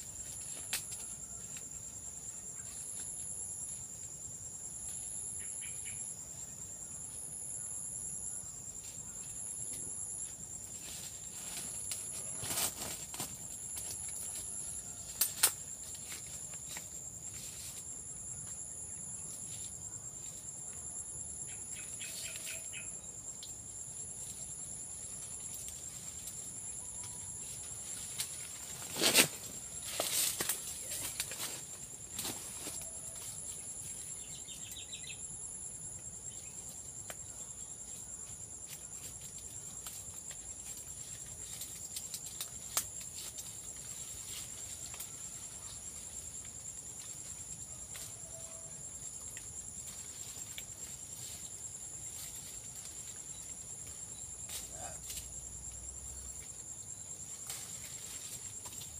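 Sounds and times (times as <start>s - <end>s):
pulsing higher insect whine: 0.0s - 58.9s.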